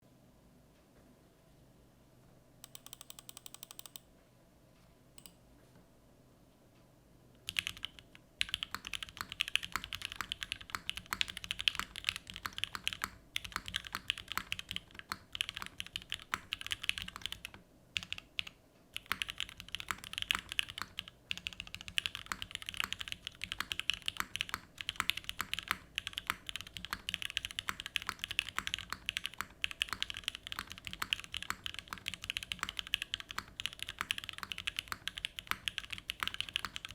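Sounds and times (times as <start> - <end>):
fast typing on mechanical keyboard: 2.6 - 4.0, 7.4 - 36.9.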